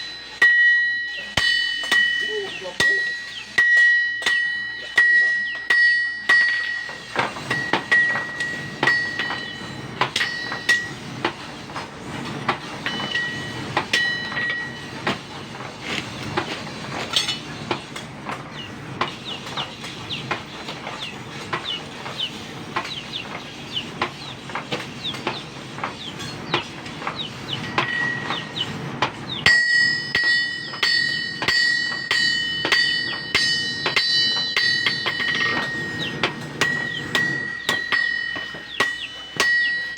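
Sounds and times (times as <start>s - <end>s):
hammers striking metal on anvil: 0.0s - 39.9s.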